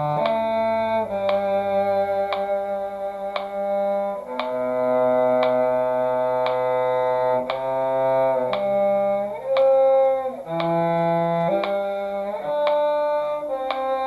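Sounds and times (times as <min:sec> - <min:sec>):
cello line: 0:00.0 - 0:14.0
higher string line: 0:00.0 - 0:14.0
metronome clicking: 0:00.0 - 0:14.0.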